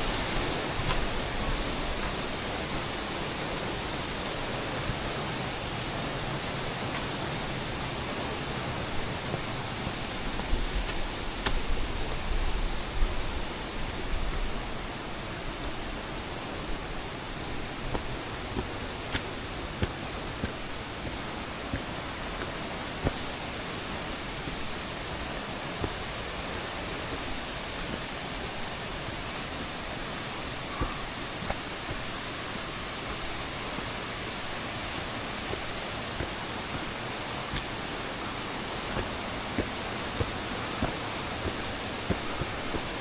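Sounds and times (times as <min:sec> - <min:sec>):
stream and waterfall rushing: 0:00.0 - 0:43.0
footsteps on a path: 0:00.1 - 0:02.8, 0:06.4 - 0:43.0.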